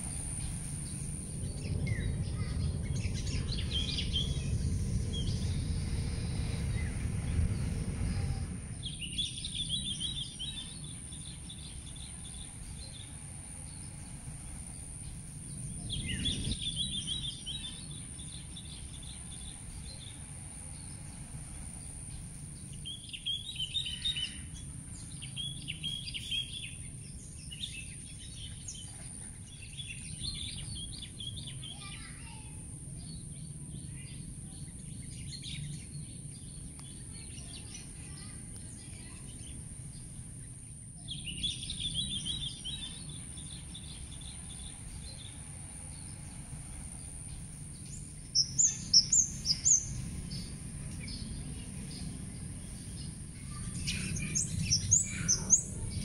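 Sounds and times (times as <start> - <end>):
low outdoor rumble: 0.0 - 56.0
small birds twittering: 0.0 - 56.0.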